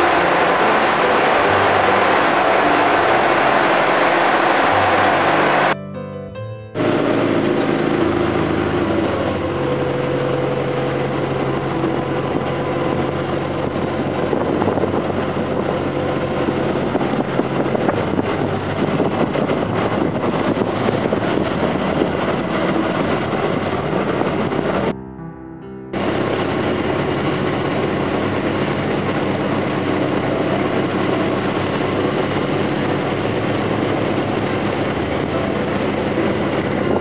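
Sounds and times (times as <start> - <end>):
boat engine and pump running: 0.0 - 5.8, 6.8 - 25.0, 25.9 - 37.0.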